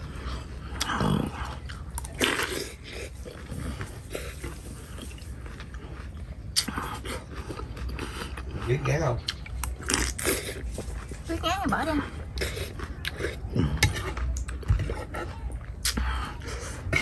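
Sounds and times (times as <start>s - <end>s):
wet chewing: 0.0s - 17.0s.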